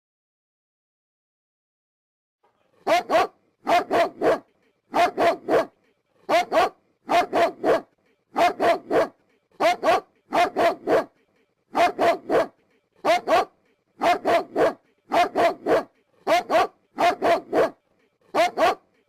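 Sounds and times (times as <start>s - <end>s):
dog barking: 2.6s - 19.0s.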